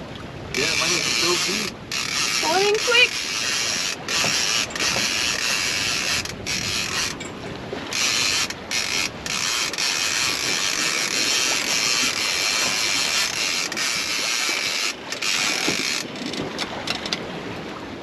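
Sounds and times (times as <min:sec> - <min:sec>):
fishing reel clicking: 0:00.6 - 0:07.3, 0:07.9 - 0:17.2.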